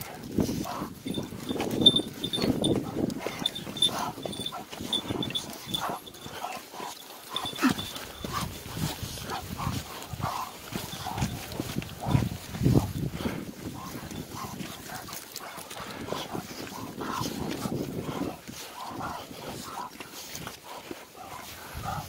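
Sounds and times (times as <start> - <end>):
dogs walking on stones: 0.0 - 22.0
footsteps on stony dirt track: 0.0 - 22.0.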